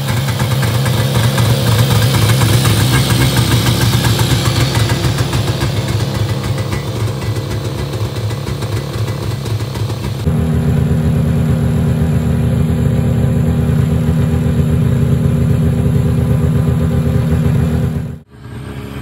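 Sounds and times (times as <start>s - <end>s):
snowmobile engine idling: 0.0s - 19.0s.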